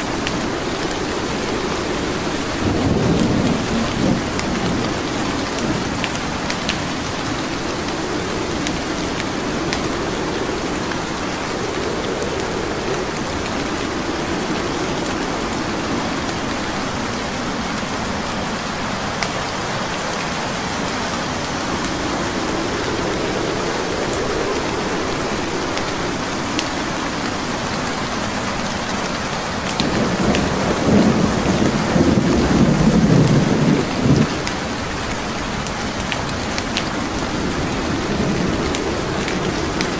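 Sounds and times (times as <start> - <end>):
rolling thunder: 0.0 - 28.6, 29.8 - 39.9
heavy rain: 0.0 - 39.9.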